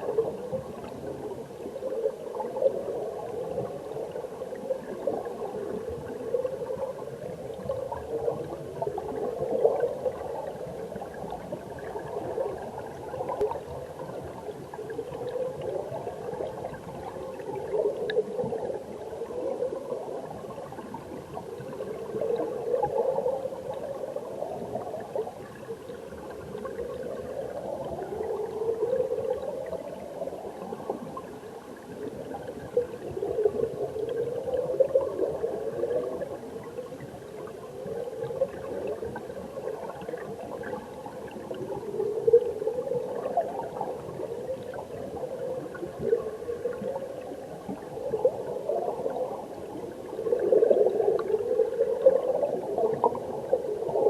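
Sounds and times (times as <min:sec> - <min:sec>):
stream water heard underwater: 0:00.0 - 0:54.0.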